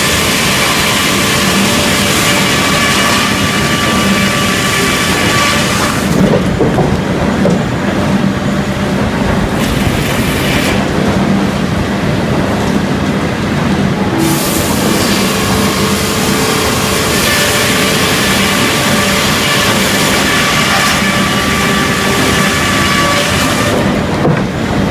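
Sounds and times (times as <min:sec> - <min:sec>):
sawmill mechanical drone: 0:00.0 - 0:24.9.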